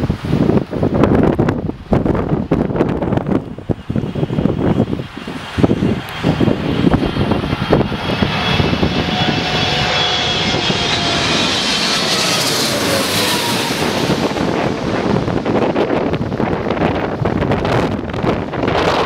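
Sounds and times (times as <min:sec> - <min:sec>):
wind buffeting microphone: 0:00.0 - 0:19.0
jet engines whining: 0:00.2 - 0:19.0.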